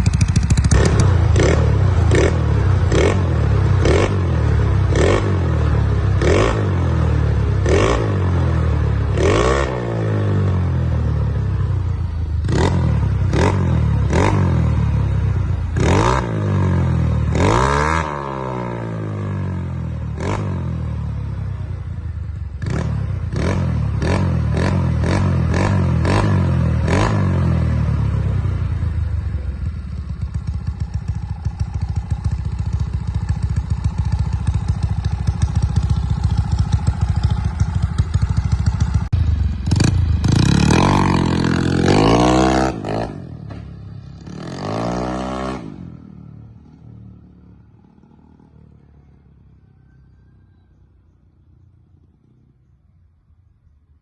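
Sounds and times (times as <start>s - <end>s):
scooter engine revving: 0.0s - 48.6s.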